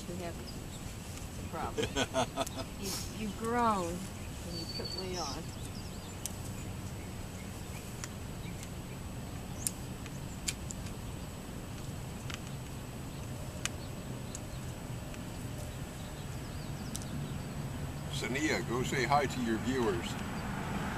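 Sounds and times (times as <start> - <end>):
steady low hum: 0.0 - 19.7.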